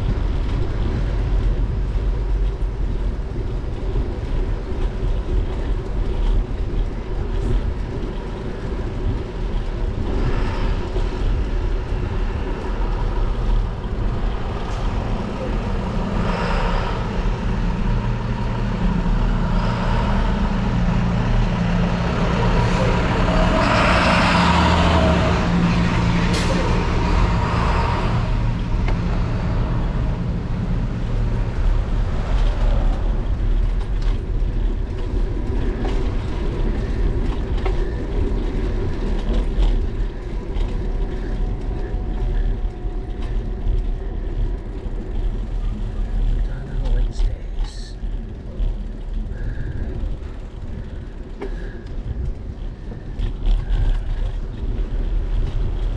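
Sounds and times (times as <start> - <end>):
large vehicle engine running: 0.0 - 55.9
street traffic: 0.0 - 55.9
wind rumbling on microphone: 0.0 - 55.9.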